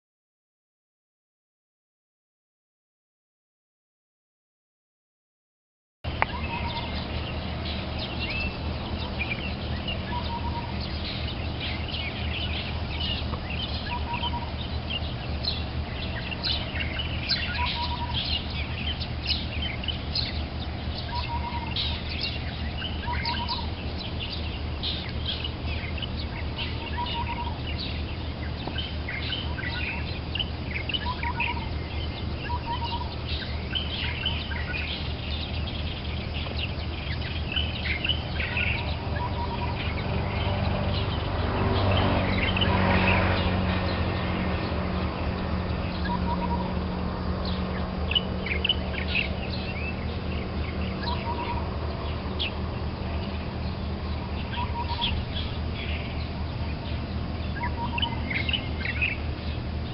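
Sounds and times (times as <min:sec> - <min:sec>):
birds chirping: 0:06.0 - 0:59.9
steady low rumble: 0:06.1 - 0:59.9.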